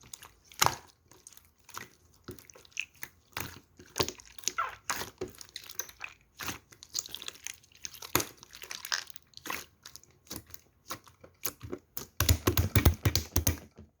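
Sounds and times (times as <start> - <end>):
crinkling and crackling of handling: 0.0 - 14.0.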